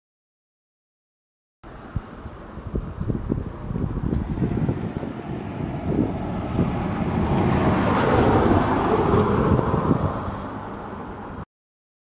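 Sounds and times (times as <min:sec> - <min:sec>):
car passing: 0:01.7 - 0:11.4
wind rumbling on microphone: 0:01.7 - 0:11.4.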